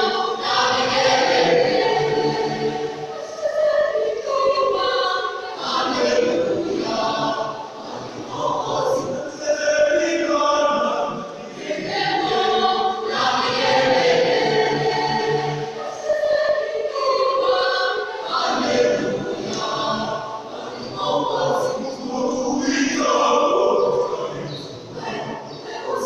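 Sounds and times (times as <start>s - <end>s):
youth choir singing: 0.0s - 26.0s.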